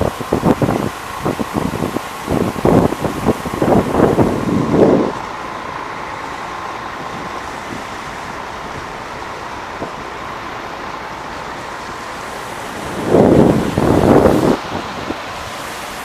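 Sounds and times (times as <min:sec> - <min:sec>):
faint steady whine: 0:00.0 - 0:16.0
road vehicle running: 0:00.0 - 0:16.0
rush of noise: 0:00.0 - 0:16.0.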